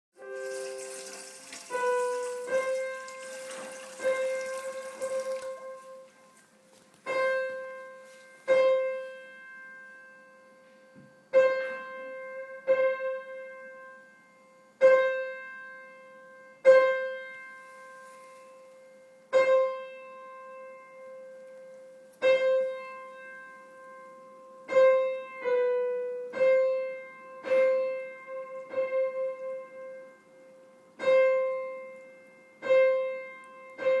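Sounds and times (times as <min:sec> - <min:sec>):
piano note struck repeatedly: 0:00.2 - 0:06.4, 0:07.0 - 0:17.6, 0:22.2 - 0:34.0.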